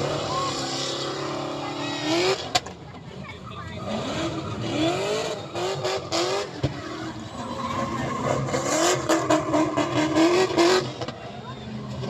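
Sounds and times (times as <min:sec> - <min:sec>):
car engine revving: 0:00.0 - 0:02.9, 0:03.5 - 0:12.0.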